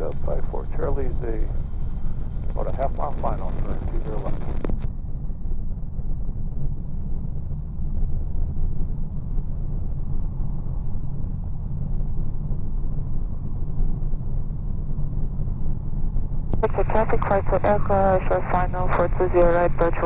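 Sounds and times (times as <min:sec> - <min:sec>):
light aircraft engine rumble: 0:00.0 - 0:20.0.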